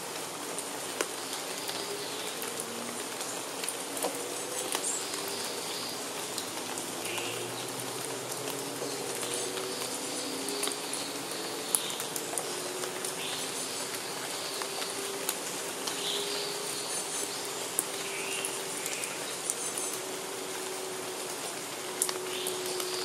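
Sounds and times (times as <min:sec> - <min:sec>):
rain falling on foliage: 0:00.0 - 0:23.0.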